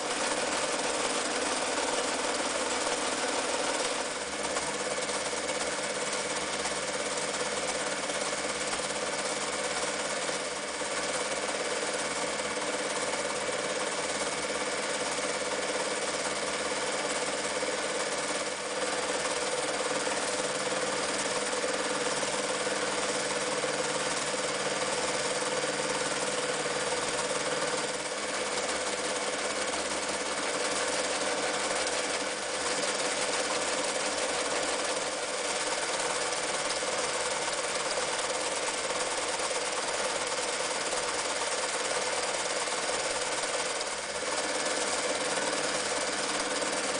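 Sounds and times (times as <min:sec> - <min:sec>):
sewing machine running: 0:00.0 - 0:46.9.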